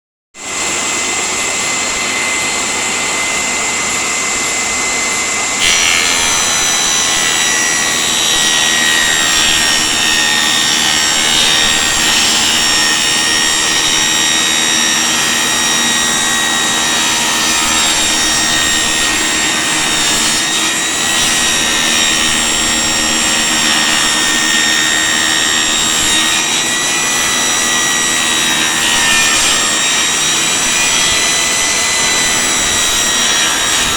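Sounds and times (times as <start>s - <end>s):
table saw cutting wood: 0.4s - 33.9s.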